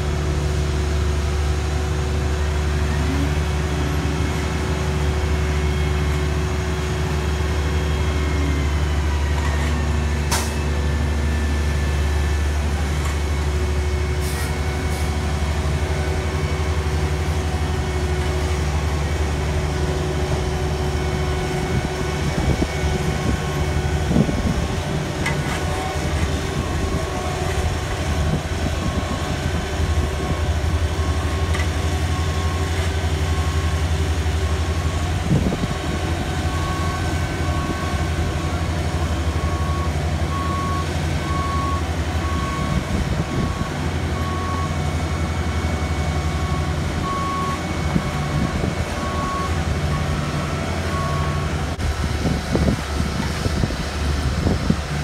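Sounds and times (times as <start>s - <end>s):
diesel paving machine rumbling: 0.0s - 55.0s.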